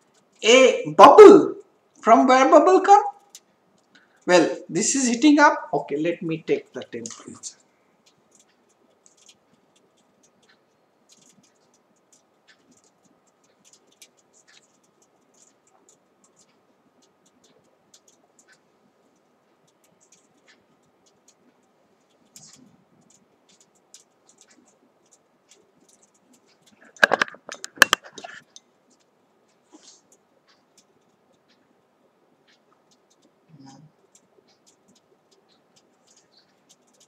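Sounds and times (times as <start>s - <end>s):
faint handling clicks and scratches: 0.0s - 0.4s, 3.0s - 4.3s, 6.1s - 37.0s.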